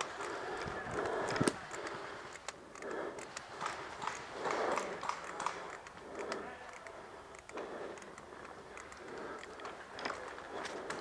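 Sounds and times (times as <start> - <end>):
sharp clicks and taps: 0.0 - 11.0.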